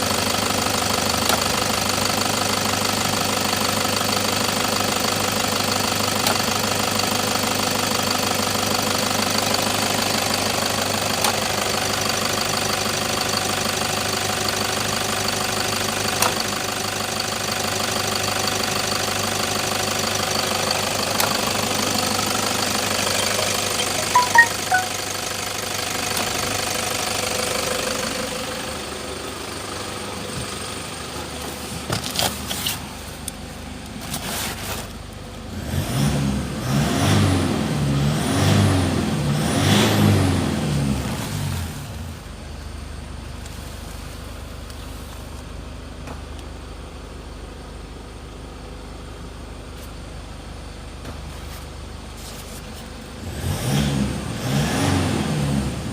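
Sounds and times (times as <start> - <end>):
diesel engine idling and revving: 0.0 - 55.9.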